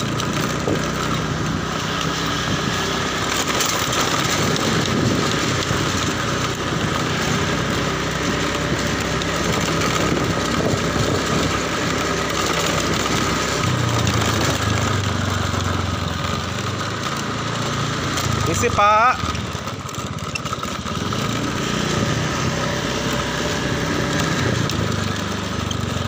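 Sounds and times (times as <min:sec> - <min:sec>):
motor scooter engine running: 0:00.0 - 0:26.0
road and wind noise: 0:00.0 - 0:26.0.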